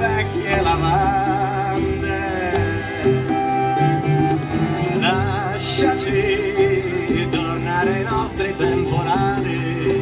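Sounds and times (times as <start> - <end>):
accordion holding long notes: 0.0 - 10.0
plucked double bass: 0.0 - 10.0
strummed acoustic guitar: 0.0 - 10.0.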